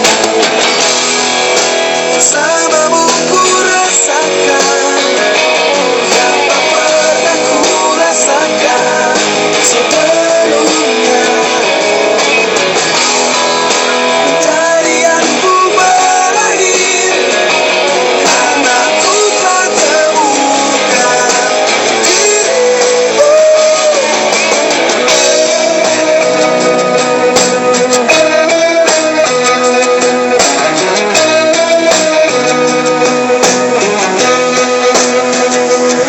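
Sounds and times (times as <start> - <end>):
pop song with guitar: 0.0 - 36.0.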